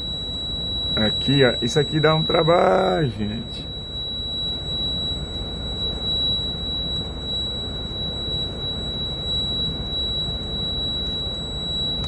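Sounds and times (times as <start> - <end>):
high-pitched warning buzzer: 0.0 - 12.0.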